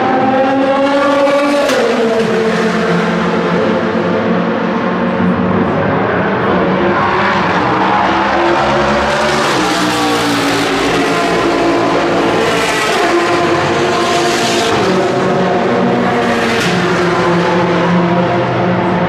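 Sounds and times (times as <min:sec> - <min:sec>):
race car engine: 0:00.0 - 0:19.0
second race car: 0:00.0 - 0:19.0.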